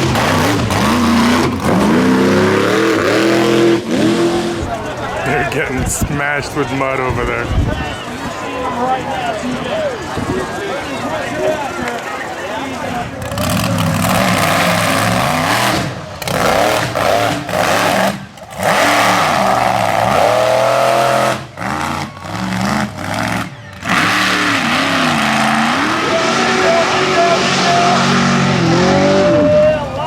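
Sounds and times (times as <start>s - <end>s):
big truck engine revving: 0.0s - 7.6s, 12.4s - 30.0s.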